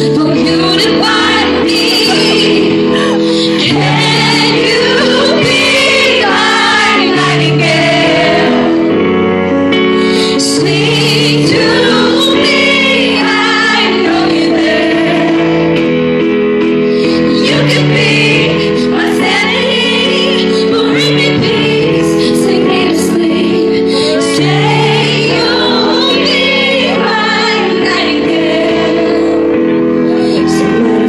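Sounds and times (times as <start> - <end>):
woman singing a slow ballad: 0.0 - 7.6, 10.1 - 15.7, 17.0 - 31.0
held accompaniment chords: 0.0 - 31.0.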